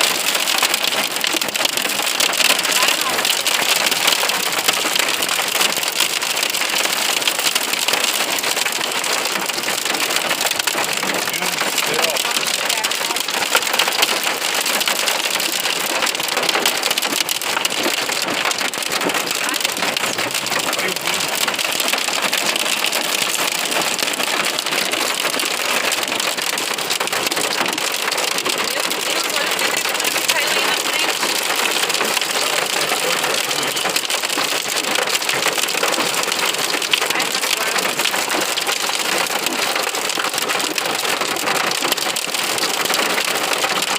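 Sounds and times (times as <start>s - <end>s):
heavy rain pelting down: 0.0s - 43.9s.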